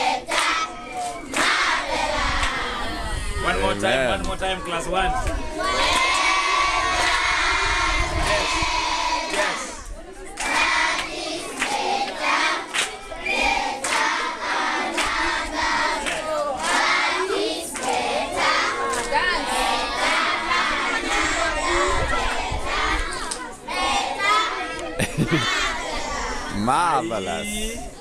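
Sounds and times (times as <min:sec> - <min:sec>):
children shouting and cheering: 0:00.0 - 0:26.6.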